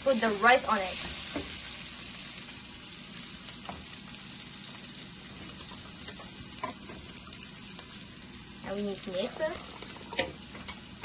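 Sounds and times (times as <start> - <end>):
pan sizzling: 0.0 - 11.0.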